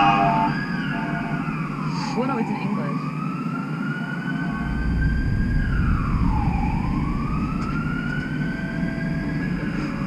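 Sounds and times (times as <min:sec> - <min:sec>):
emergency siren wailing: 0:00.0 - 0:10.0
low rumble of traffic: 0:00.0 - 0:10.0.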